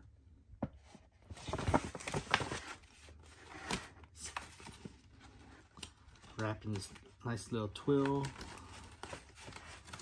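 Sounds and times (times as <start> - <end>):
paper packaging rustling: 1.2 - 10.0.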